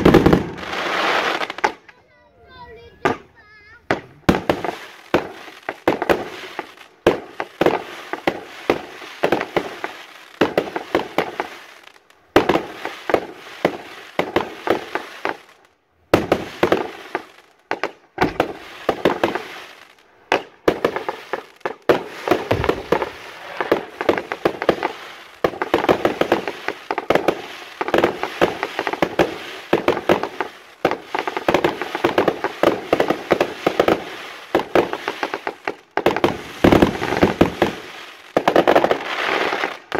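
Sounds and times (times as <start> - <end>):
crackling fireworks stars: 0.0 - 39.9
fireworks bangs: 0.0 - 39.9.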